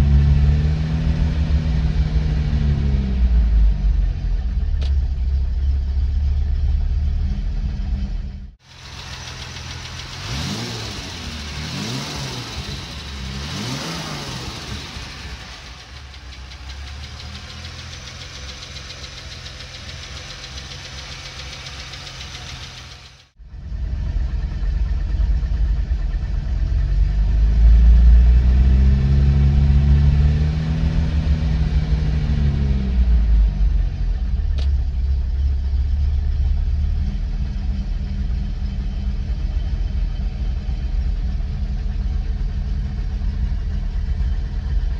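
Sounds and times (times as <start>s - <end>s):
car engine revving and idling: 0.0s - 44.9s.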